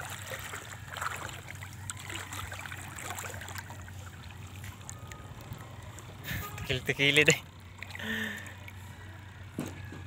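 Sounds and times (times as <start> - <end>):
low steady hum: 0.0 - 10.0
water lapping and trickling: 0.0 - 10.0.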